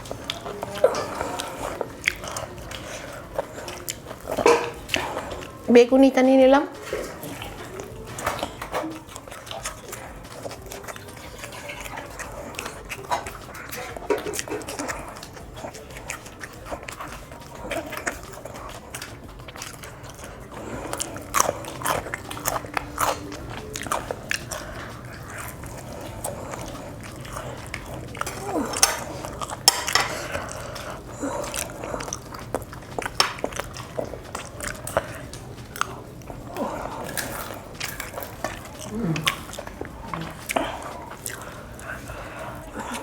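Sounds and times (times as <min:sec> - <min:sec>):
wet mouth sounds: 0:00.0 - 0:05.7, 0:06.8 - 0:43.0
chewing crunchy snacks: 0:00.0 - 0:05.8, 0:06.7 - 0:43.0.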